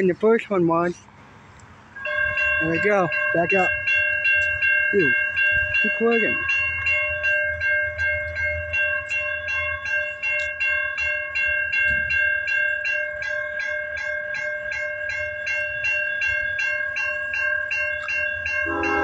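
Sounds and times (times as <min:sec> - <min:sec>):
freight train rumbling: 0:00.0 - 0:19.0
railroad crossing bell ringing: 0:01.9 - 0:19.0.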